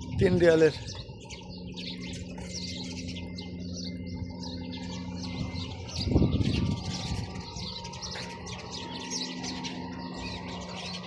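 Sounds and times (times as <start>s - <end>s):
sparrows chirping: 0.0s - 11.0s
steady low hum: 0.0s - 11.0s.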